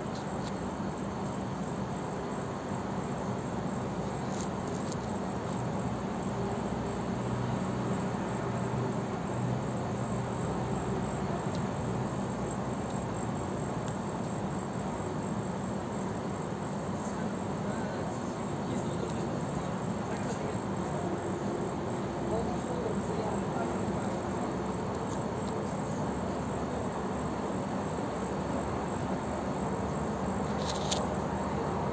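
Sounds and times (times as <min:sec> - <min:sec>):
high-pitched insect chorus: 0:00.0 - 0:31.9.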